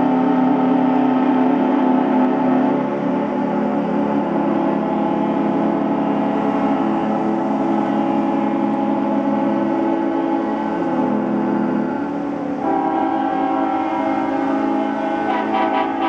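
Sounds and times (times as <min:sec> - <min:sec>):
ship horns blowing: 0:01.5 - 0:16.0.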